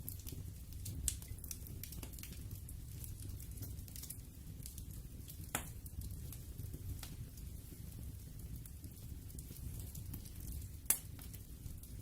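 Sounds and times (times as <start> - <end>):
campfire crackling: 0.0 - 12.0
low fire rumble: 0.0 - 12.0.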